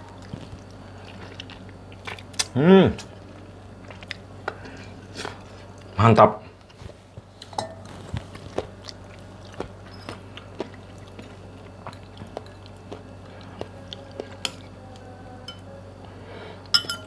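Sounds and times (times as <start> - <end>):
chewing and mouth sounds: 0.0 - 5.9, 6.6 - 15.1
faint low hum: 0.0 - 17.0.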